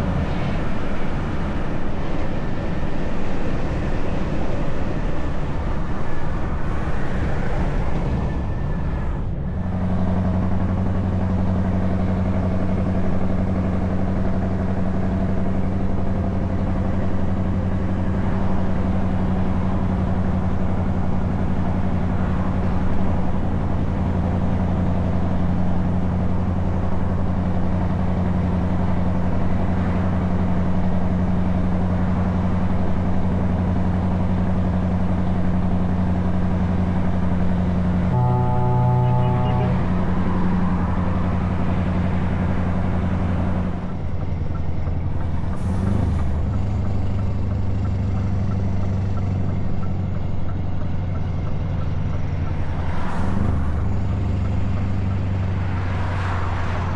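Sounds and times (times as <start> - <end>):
truck engine droning: 0.0 - 56.9.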